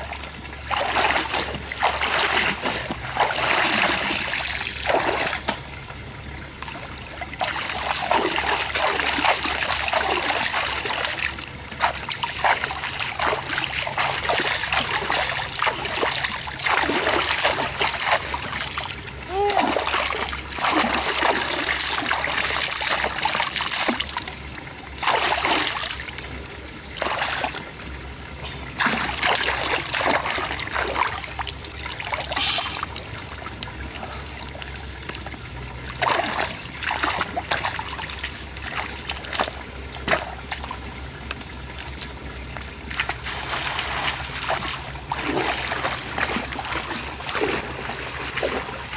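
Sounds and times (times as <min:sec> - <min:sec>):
water trickling: 0:00.0 - 0:48.9
water splashing: 0:00.6 - 0:05.6, 0:06.7 - 0:26.3, 0:28.7 - 0:40.9, 0:42.8 - 0:48.9.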